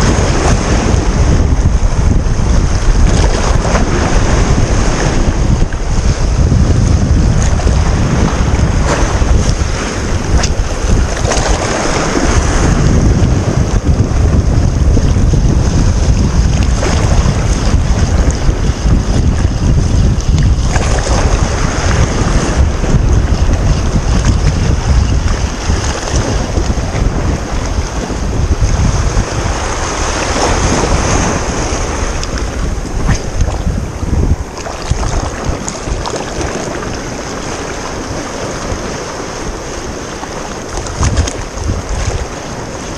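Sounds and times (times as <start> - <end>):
waves washing against shore: 0.0 - 42.9
wind buffeting microphone: 0.0 - 42.9.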